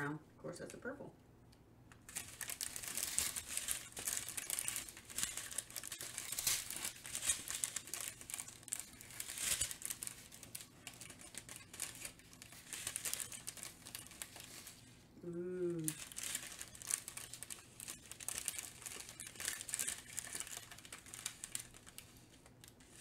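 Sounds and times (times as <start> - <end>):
plastic bags crinkling: 2.0 - 15.1, 15.7 - 23.0.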